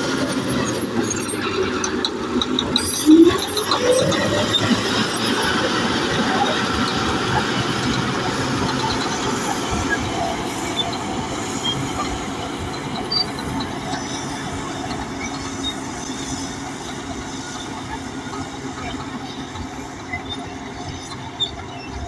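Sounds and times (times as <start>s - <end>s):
bulldozer engine running: 0.0s - 22.0s
steel tracks clattering and squeaking: 0.0s - 22.0s.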